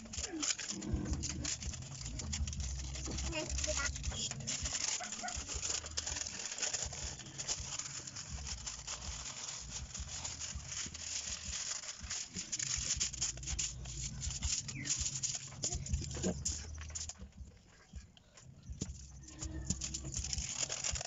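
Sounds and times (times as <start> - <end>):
aluminium foil crinkling: 0.0 - 21.0.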